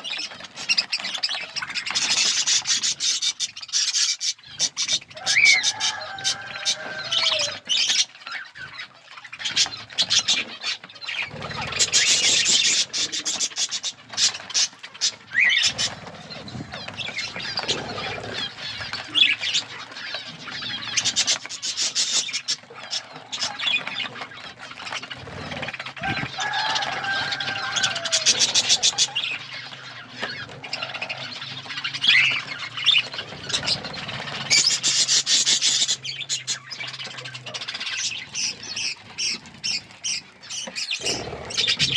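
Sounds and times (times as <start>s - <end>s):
budgerigars chattering: 0.0s - 41.9s.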